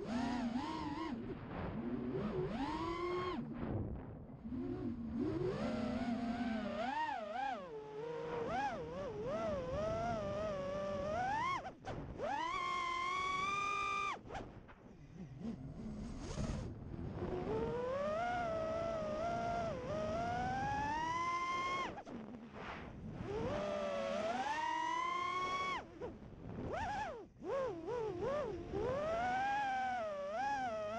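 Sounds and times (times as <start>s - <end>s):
quadcopter motors whining: 0.0s - 1.2s, 2.0s - 3.6s, 4.4s - 14.2s, 15.2s - 22.0s, 23.1s - 30.9s.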